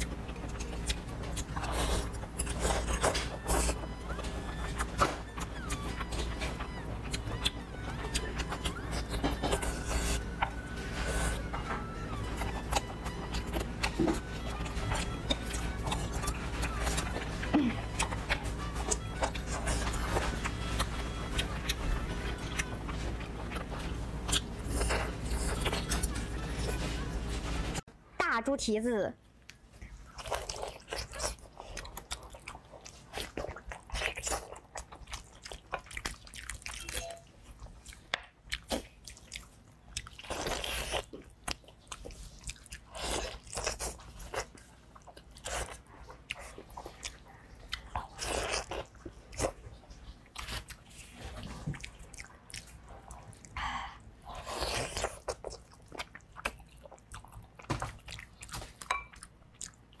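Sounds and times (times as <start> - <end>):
wet chewing and smacking: 0.0 - 26.8, 29.4 - 60.0.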